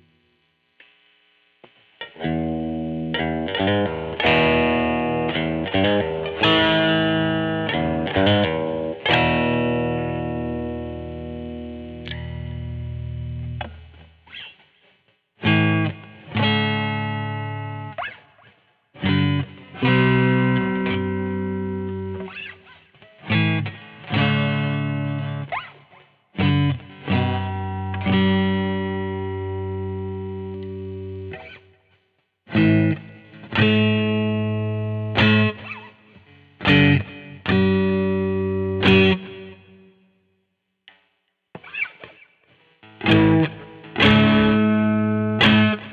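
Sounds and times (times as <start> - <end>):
electric guitar through an amp: 0.0 - 40.1, 40.9 - 45.9.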